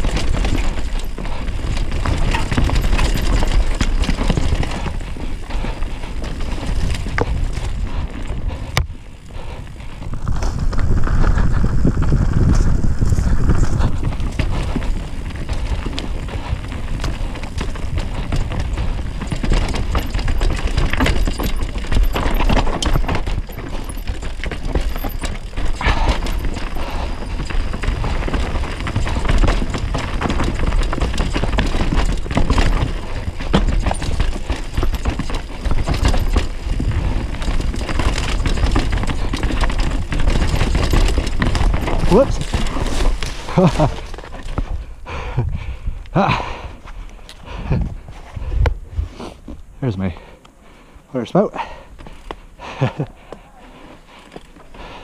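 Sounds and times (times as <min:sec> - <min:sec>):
bike clattering over roots and rocks: 0:00.0 - 0:44.9
wind rumble on microphone: 0:00.0 - 0:49.2
bike tyre rumble on dirt: 0:00.0 - 0:55.0.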